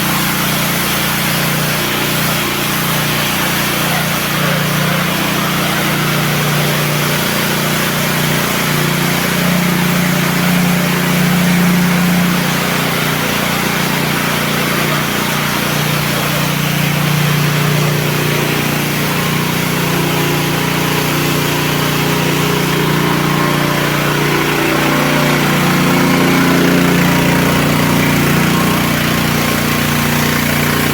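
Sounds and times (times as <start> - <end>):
pressure washer running: 0.0 - 30.9.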